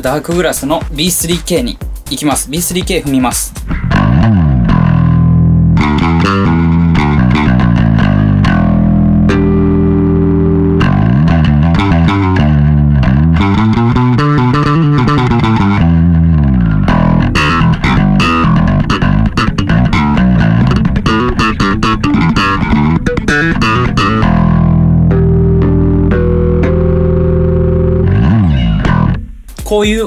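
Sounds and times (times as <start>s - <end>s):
overdriven electric bass playing: 3.2s - 29.6s.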